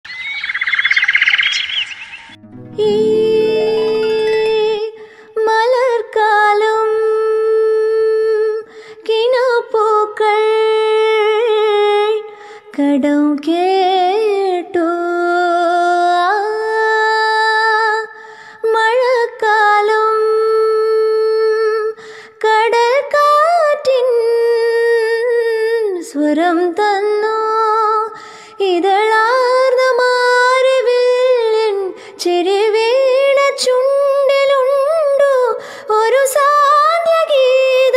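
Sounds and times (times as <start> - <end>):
woman singing slow melody: 2.4 - 37.9.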